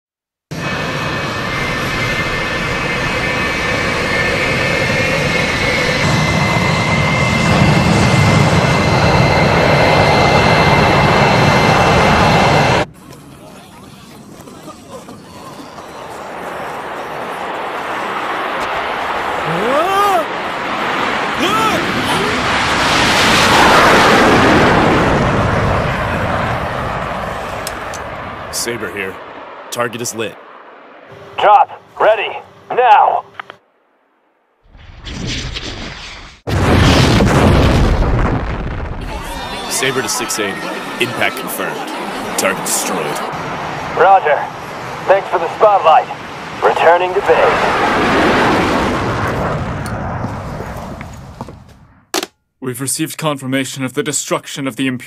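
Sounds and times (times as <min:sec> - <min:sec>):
jet engines at afterburner: 0:00.5 - 0:33.6, 0:34.7 - 0:52.2.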